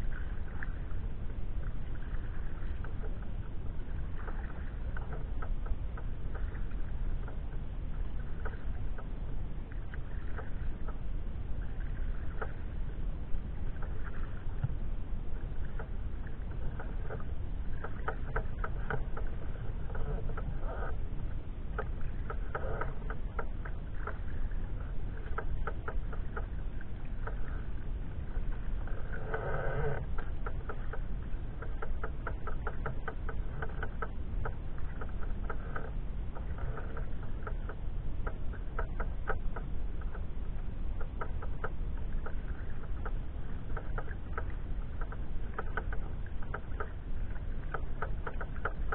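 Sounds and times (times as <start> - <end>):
paddle splashing and dripping water: 0.0 - 48.9
steady low rumble: 0.0 - 48.9.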